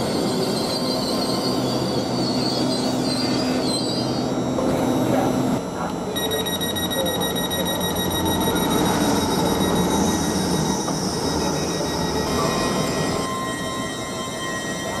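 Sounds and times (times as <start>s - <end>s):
high-pitched whines: 0.0s - 15.0s
train idling rumble: 0.0s - 15.0s.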